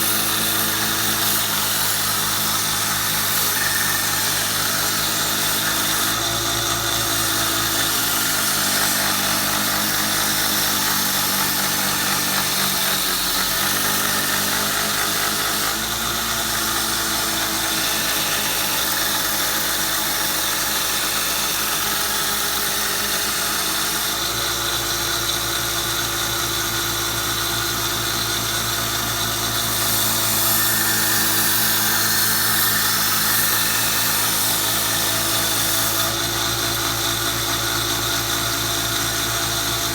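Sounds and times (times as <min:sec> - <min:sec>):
belt sander grinding metal: 0:00.0 - 0:39.9.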